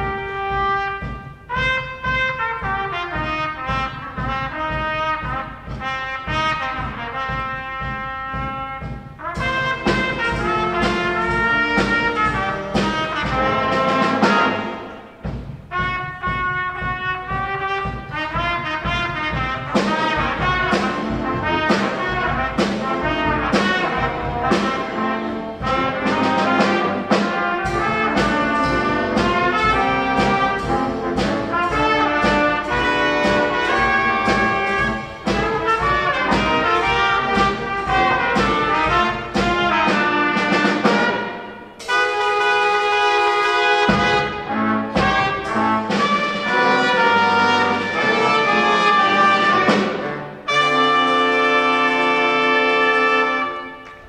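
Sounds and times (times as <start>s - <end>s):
brass and saxophone band playing: 0.0s - 54.0s.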